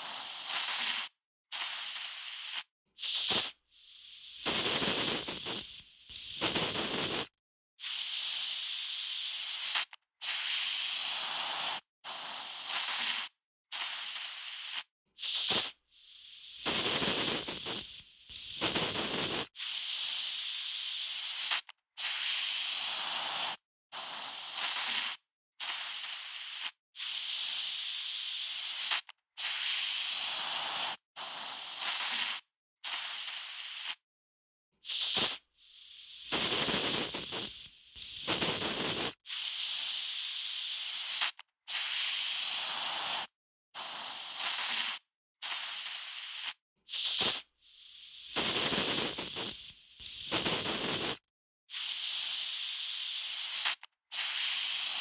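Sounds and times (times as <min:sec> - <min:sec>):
aerosol spray can hissing: 0:00.0 - 0:34.0, 0:34.8 - 0:55.0.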